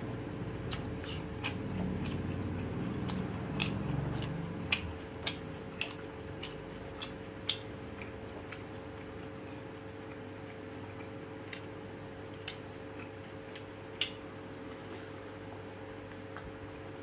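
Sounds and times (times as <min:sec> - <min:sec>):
faint steady hum: 0:00.0 - 0:17.0
person chewing with wet smacks: 0:00.6 - 0:16.7.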